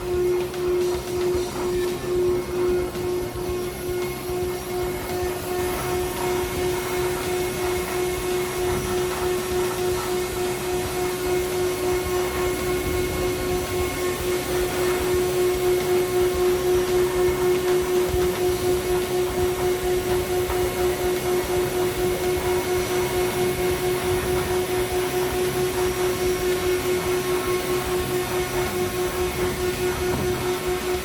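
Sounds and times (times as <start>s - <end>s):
floor grinder pulsing hum: 0.0s - 31.0s.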